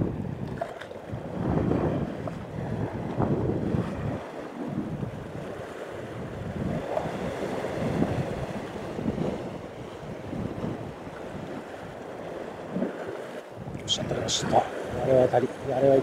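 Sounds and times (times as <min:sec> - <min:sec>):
sea waves washing on rocks: 0:00.0 - 0:16.0
wind buffeting microphone: 0:00.0 - 0:16.0.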